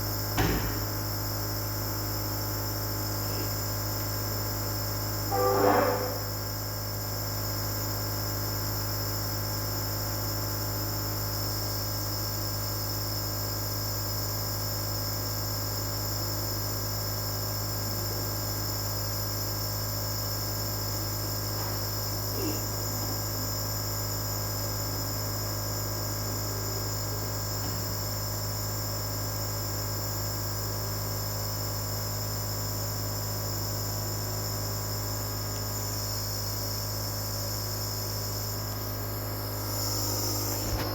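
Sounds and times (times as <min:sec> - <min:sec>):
compressor humming with high whine: 0:00.0 - 0:40.9.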